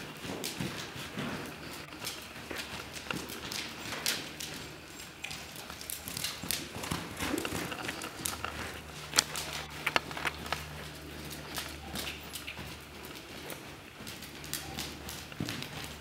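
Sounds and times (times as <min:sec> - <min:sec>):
horse hooves trotting on sand: 0:00.0 - 0:16.0
sharp hoof clicks: 0:00.0 - 0:16.0
steady low hum: 0:00.0 - 0:16.0.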